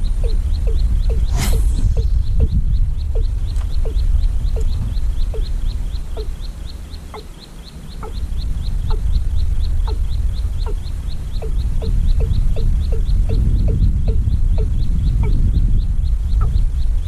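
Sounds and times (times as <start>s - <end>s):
rapid high animal chirps: 0.0s - 17.0s
steady low rumble: 0.0s - 17.0s.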